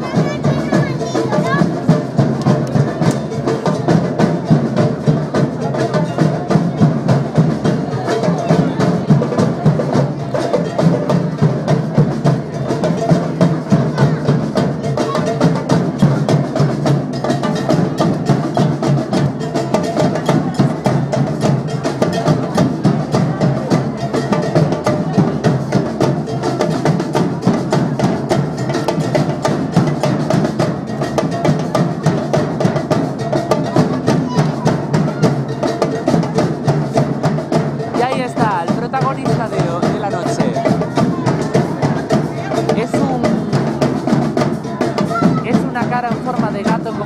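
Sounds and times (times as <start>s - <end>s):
drum band playing fast rhythm: 0.0s - 47.0s.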